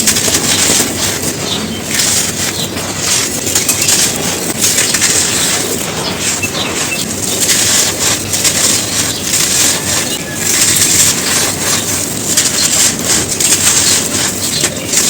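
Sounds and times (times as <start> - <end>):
cones being crushed: 0.0 - 15.0.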